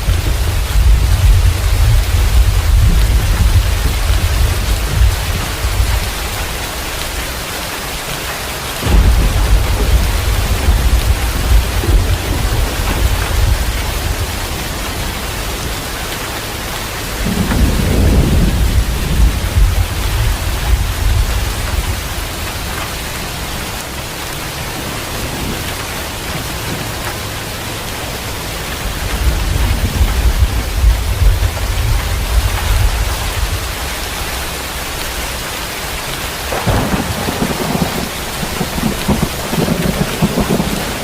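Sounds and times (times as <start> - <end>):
thunder rumbling: 0.0 - 7.4, 8.8 - 41.0
heavy rain falling: 0.0 - 41.0.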